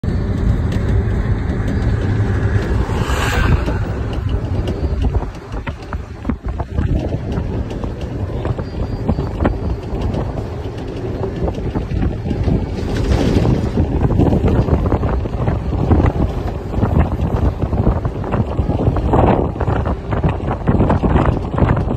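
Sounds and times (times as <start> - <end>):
low road rumble: 0.0 - 21.9
wind buffeting microphone: 0.0 - 21.9.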